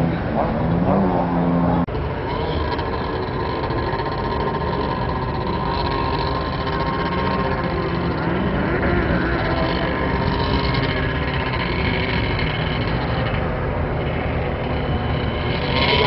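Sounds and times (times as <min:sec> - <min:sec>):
snowmobile engines running: 0:00.0 - 0:16.0.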